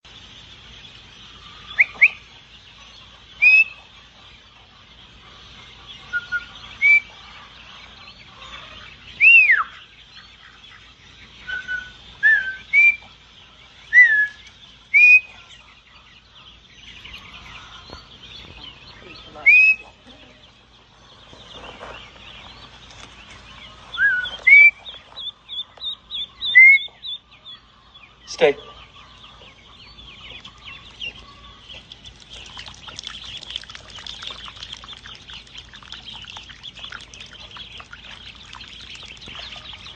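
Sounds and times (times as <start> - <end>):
chickens calling: 0.0 - 39.9.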